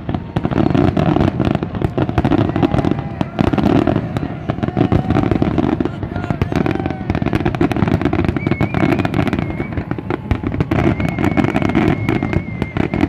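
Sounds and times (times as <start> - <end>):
fireworks bursting and crackling: 0.0 - 13.0
high wavering firework whistle: 0.0 - 13.0.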